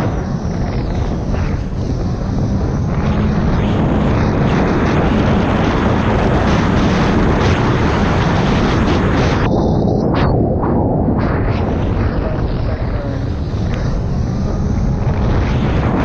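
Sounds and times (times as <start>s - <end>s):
jet ski engine running hard: 0.0s - 9.9s, 11.2s - 16.0s
wind rushing: 0.0s - 16.0s.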